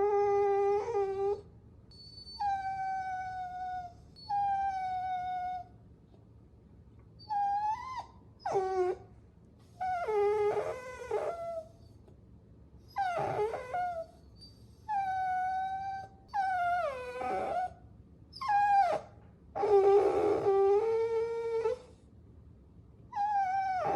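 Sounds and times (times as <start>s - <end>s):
puppy whining: 0.0s - 5.8s, 7.2s - 12.1s, 12.8s - 22.0s, 23.1s - 23.9s.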